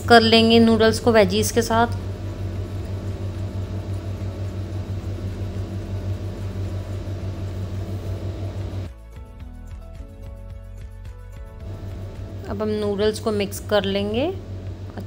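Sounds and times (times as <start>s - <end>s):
fan hiss: 0.0s - 8.9s, 11.6s - 15.0s
pulsing low hum: 0.0s - 8.9s, 11.4s - 15.0s.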